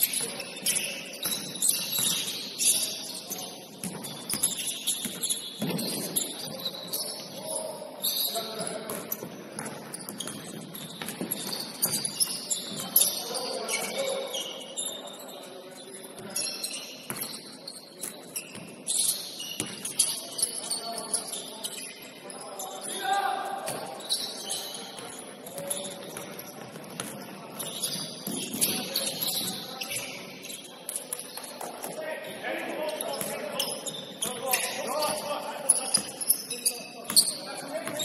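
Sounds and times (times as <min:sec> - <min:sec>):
shoes squeaking on gym floor: 0:00.0 - 0:38.0.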